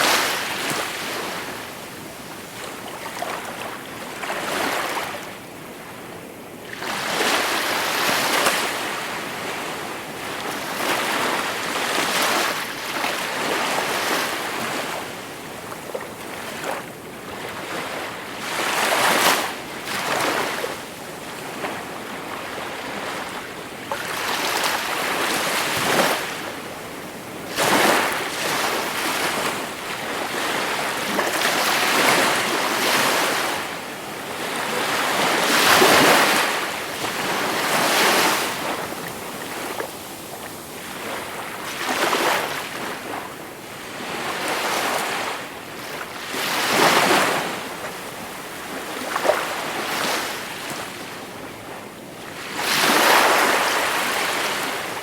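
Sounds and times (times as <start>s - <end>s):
gentle sea waves breaking: 6.8s - 51.7s.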